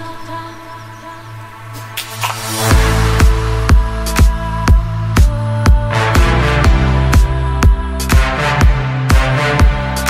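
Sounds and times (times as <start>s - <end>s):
electronic dance music: 1.8s - 10.0s.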